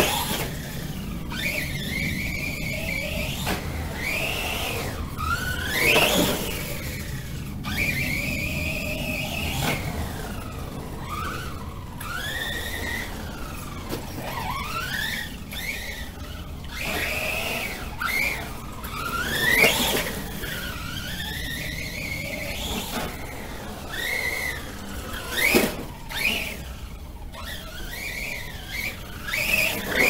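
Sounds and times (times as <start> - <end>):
toy truck electric motor whining: 0.0 - 30.0.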